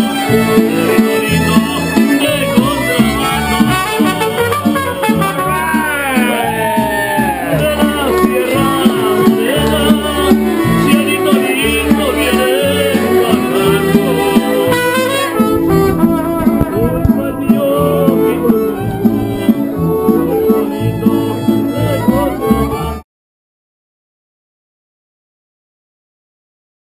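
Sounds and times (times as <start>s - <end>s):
trumpet: 0.0s - 9.6s, 10.5s - 23.0s
bass line: 0.0s - 23.0s
guitars: 0.0s - 23.0s
mariachi band playing: 0.0s - 23.0s
violin: 0.0s - 23.0s.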